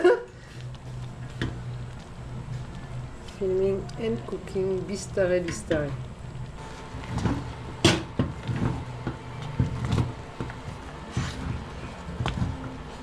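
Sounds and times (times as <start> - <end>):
low steady hum: 0.0 - 13.0
wooden stick stirring in pot: 0.3 - 13.0.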